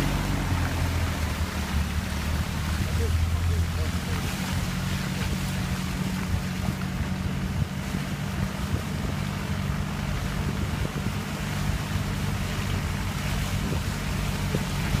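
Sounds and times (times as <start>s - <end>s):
vehicle engine running steadily: 0.0s - 15.0s
wind on microphone: 0.0s - 15.0s.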